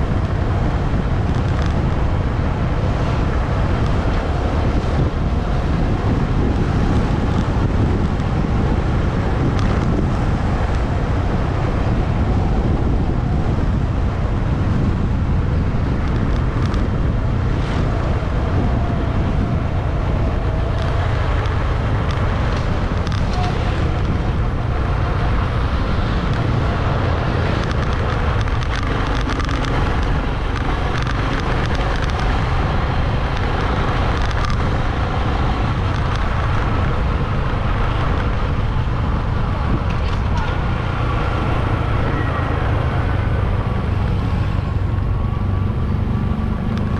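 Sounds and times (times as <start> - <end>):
road noise: 0.0 - 46.9
wind rush on microphone: 0.0 - 46.9.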